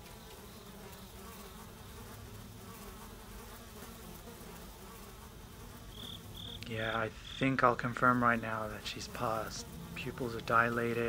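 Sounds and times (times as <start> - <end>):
flies buzzing: 0.0 - 11.0.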